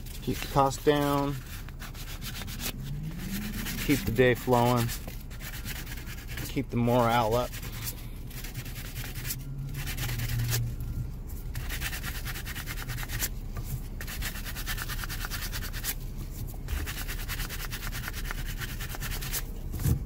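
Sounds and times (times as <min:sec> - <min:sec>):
sandpaper scratching on plastic: 0:00.3 - 0:10.6, 0:11.5 - 0:13.3, 0:14.0 - 0:16.0, 0:16.7 - 0:19.5.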